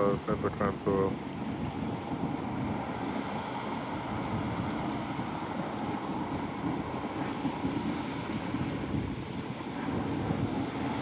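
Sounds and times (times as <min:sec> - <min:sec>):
outboard engines running: 0:00.0 - 0:11.0
wind buffeting microphone: 0:00.0 - 0:11.0.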